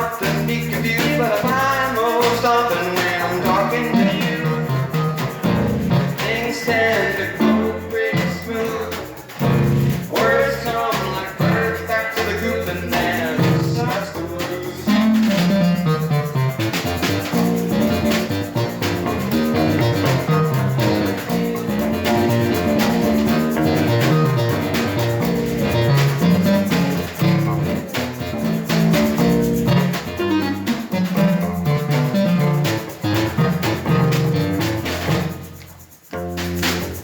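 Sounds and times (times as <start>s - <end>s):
bass line: 0.0s - 37.0s
drum kit: 0.0s - 37.0s
guitar: 0.0s - 37.0s.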